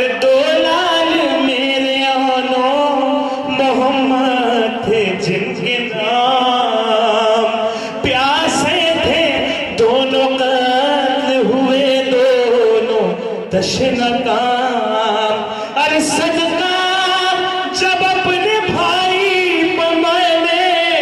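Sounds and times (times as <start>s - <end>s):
man chanting into a microphone: 0.0s - 21.0s.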